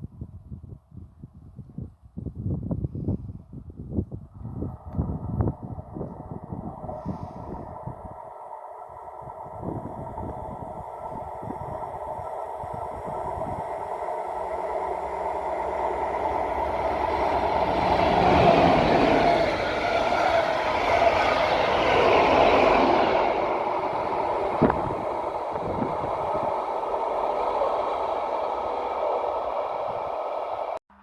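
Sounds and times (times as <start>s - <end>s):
train passing: 4.7s - 31.0s.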